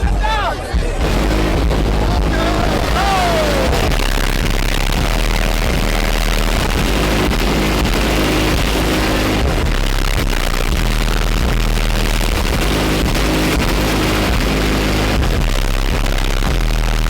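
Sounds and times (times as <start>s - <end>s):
bass-heavy music from subwoofer: 0.0s - 17.0s.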